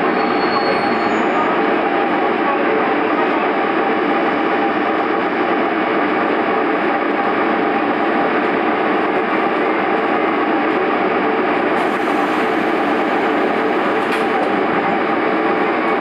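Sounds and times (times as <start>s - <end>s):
diesel railcar idling: 0.0s - 16.0s.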